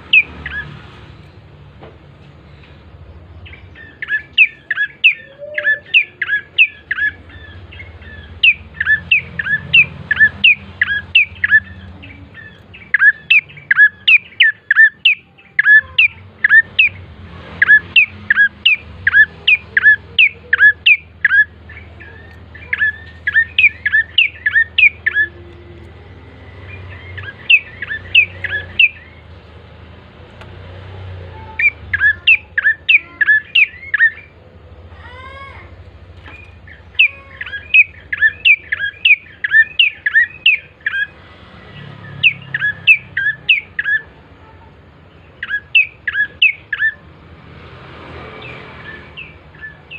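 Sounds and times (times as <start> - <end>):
bird calling sharp notes: 3.4 - 29.3, 31.2 - 47.1.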